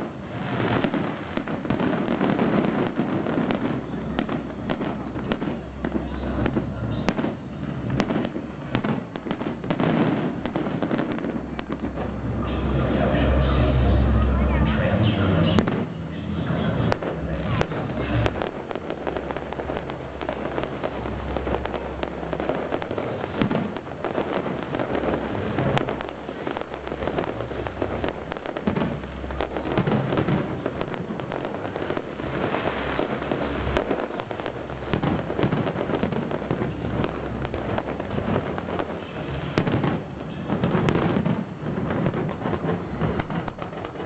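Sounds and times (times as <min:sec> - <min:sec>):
firework shell booms: 0:00.0 - 0:14.0, 0:15.0 - 0:44.0
fireworks crackling: 0:00.0 - 0:44.0.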